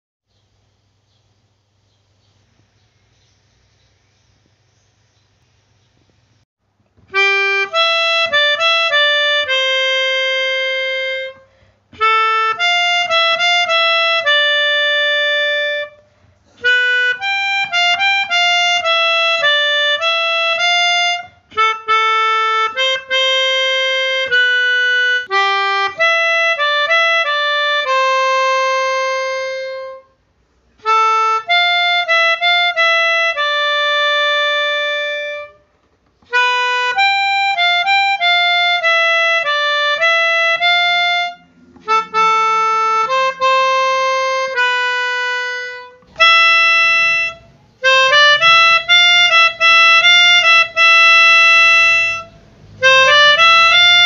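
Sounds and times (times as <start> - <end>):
melodica melody: 7.1 - 54.0.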